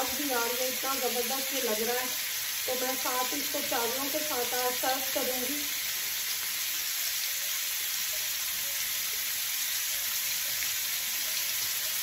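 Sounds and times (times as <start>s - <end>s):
food sizzling in a grill pan: 0.0s - 12.0s.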